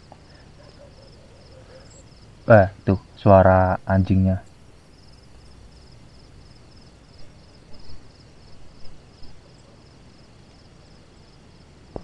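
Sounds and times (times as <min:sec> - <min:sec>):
crickets chirping: 0:00.0 - 0:12.0
faint background hiss: 0:00.0 - 0:12.0.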